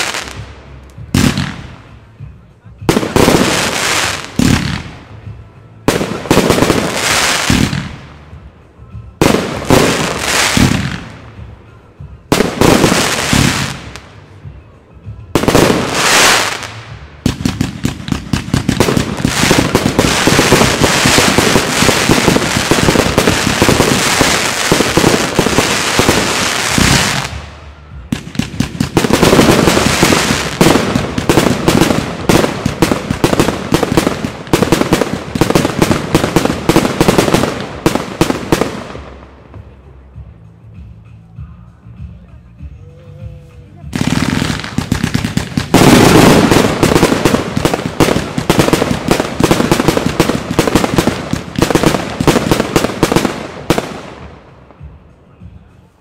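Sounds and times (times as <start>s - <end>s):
firework bangs: 0.0s - 2.2s, 2.8s - 8.3s, 9.2s - 14.2s, 15.4s - 39.7s, 43.9s - 54.9s
firework crackling: 0.0s - 8.3s, 9.2s - 14.2s, 15.4s - 39.7s, 43.8s - 54.5s.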